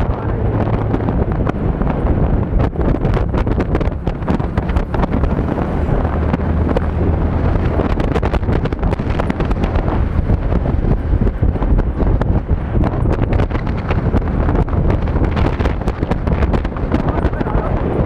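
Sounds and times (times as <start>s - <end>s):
motorcycle engine humming: 0.0s - 18.0s
wind buffeting microphone: 0.0s - 18.0s.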